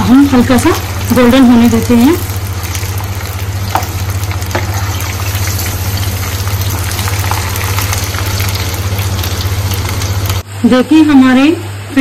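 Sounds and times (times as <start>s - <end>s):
fries sizzling in hot oil: 0.0s - 10.4s
steady low hum: 0.0s - 12.0s.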